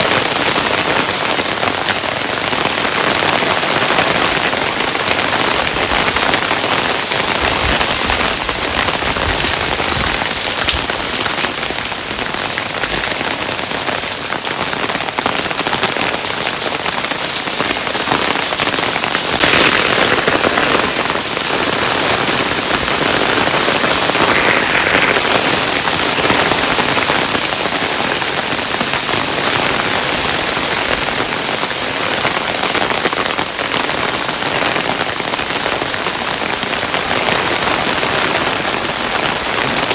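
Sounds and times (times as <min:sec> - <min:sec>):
hail pattering on a surface: 0:00.0 - 0:39.9.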